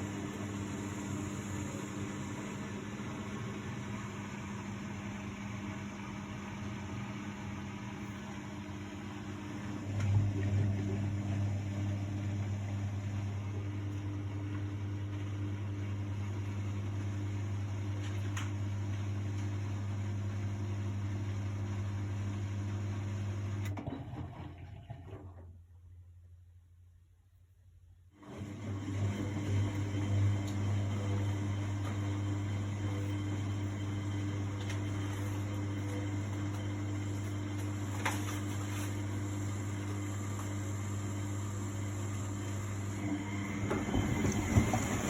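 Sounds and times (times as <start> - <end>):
drain pump humming: 0.0 - 25.6, 28.2 - 45.0
washing machine running: 0.0 - 26.0, 28.1 - 45.0.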